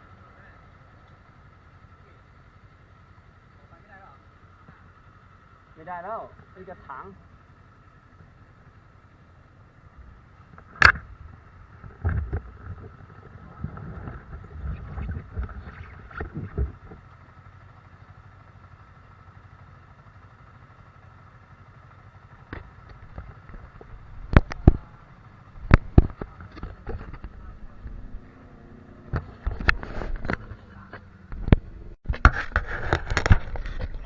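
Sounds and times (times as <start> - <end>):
vehicle engine rumble: 0.0 - 34.0.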